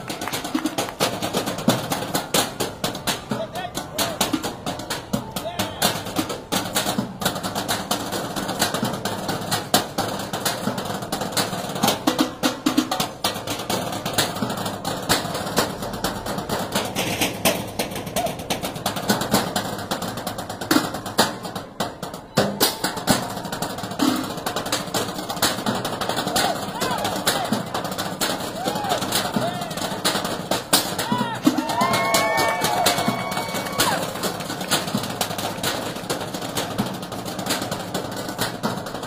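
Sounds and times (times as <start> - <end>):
drumming on metal trash cans: 0.0 - 39.0.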